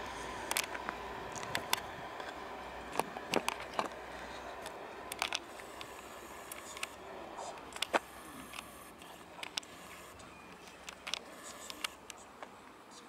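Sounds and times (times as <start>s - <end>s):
sharp clicks: 0.0s - 12.3s
faint diesel train running: 0.0s - 13.0s.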